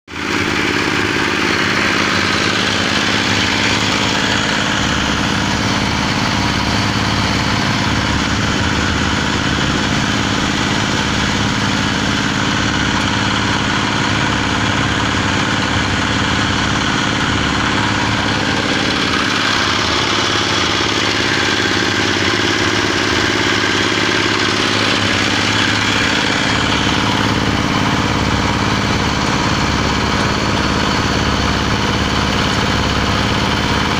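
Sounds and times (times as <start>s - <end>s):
mixer blades churning soil: 0.1s - 33.9s
small diesel engine running: 0.1s - 33.9s.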